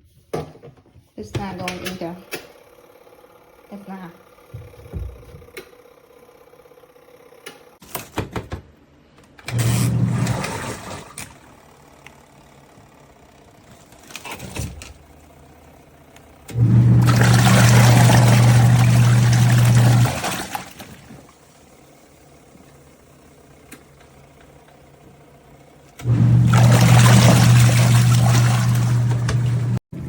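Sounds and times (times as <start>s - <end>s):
washing machine motor humming: 1.4s - 7.8s, 9.3s - 30.0s.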